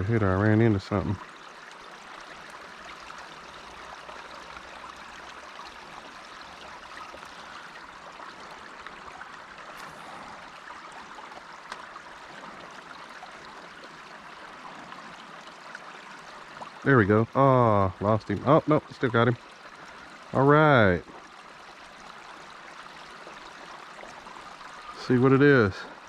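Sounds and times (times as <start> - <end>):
creek water trickling: 0.0 - 26.0.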